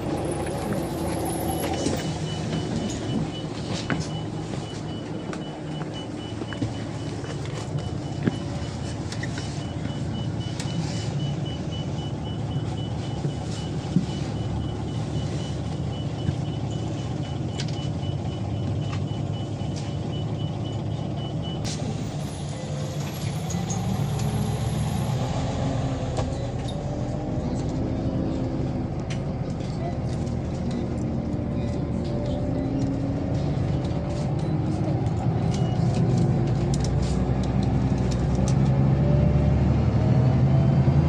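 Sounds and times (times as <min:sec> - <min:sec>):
bus engine running: 0:00.0 - 0:41.0.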